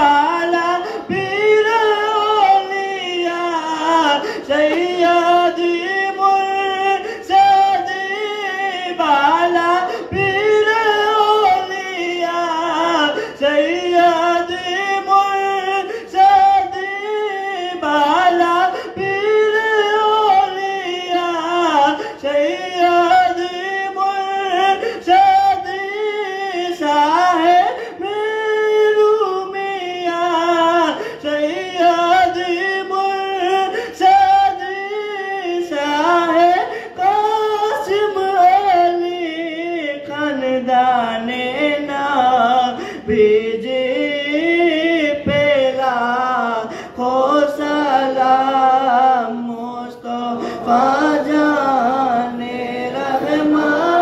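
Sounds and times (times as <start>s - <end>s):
man singing into a microphone: 0.0s - 54.0s.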